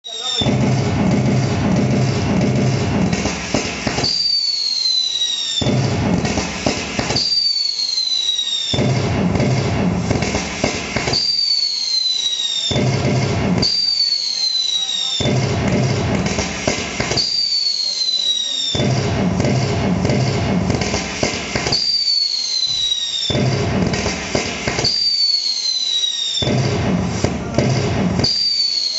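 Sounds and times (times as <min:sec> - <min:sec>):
falling firework whistle: 0:00.0 - 0:28.9
firework crackling bursts: 0:00.0 - 0:28.9.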